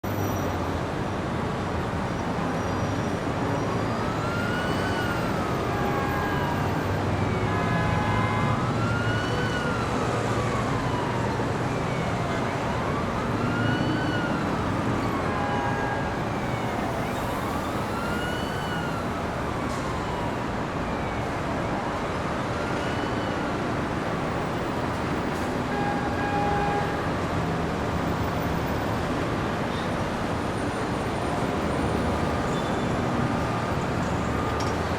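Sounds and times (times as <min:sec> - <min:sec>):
city street traffic: 0:00.0 - 0:34.9
emergency siren wailing: 0:03.1 - 0:34.9.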